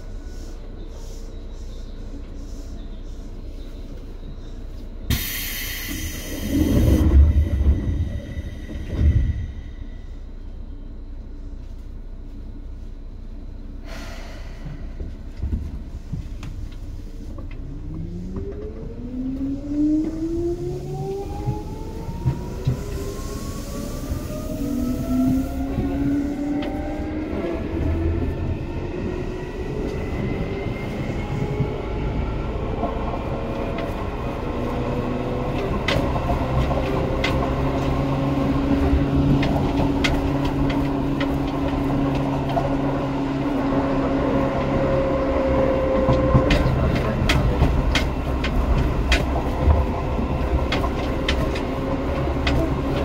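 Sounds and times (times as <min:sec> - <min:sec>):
train wheels rumbling: 0:00.0 - 0:53.0.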